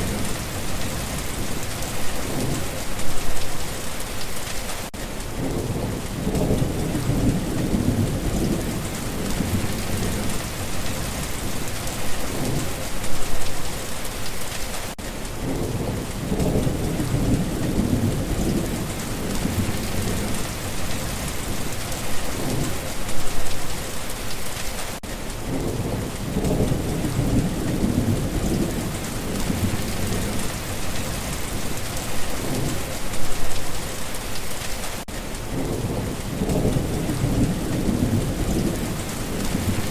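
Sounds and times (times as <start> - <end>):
low rolling thunder: 0.0 - 3.4, 5.3 - 13.6, 15.4 - 23.4, 25.4 - 33.6, 35.4 - 39.9
steady rain falling: 0.0 - 39.9.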